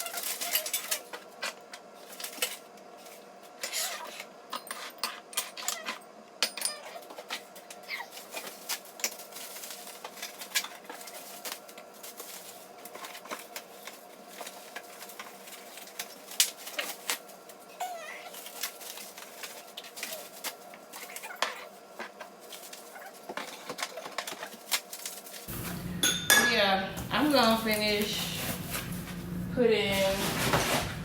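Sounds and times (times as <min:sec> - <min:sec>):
bubble wrap rustling: 0:00.0 - 0:04.3, 0:07.0 - 0:25.9, 0:27.1 - 0:31.0.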